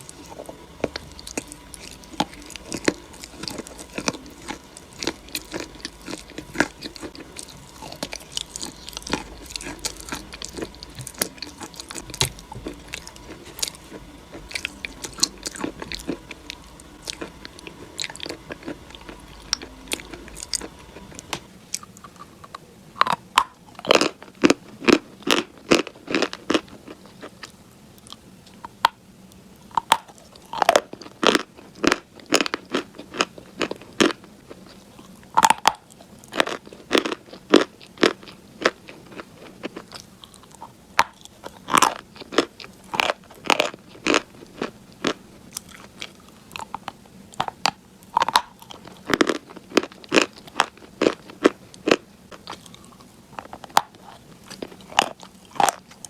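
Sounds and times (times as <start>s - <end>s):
crunchy food crunches: 0.0s - 29.0s, 29.6s - 56.0s
person chewing: 0.0s - 29.0s, 29.7s - 56.0s.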